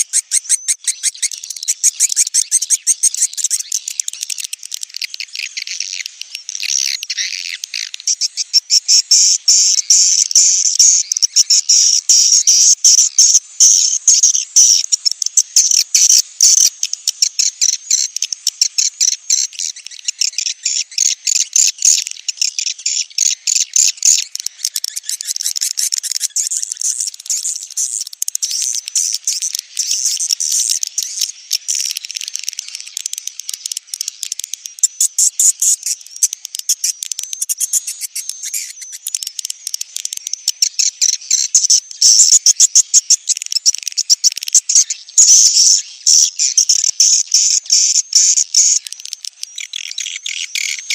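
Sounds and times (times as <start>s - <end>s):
high-pitched bird chirping: 0.0s - 16.7s, 17.3s - 50.9s.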